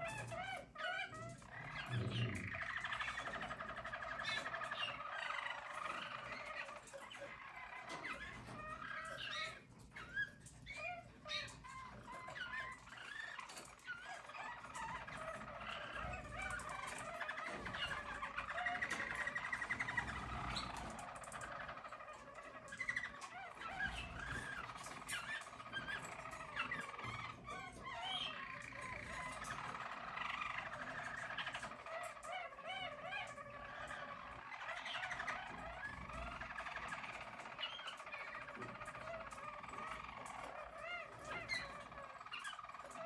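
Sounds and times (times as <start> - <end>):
canaries singing rapid trills: 0.0 - 43.0.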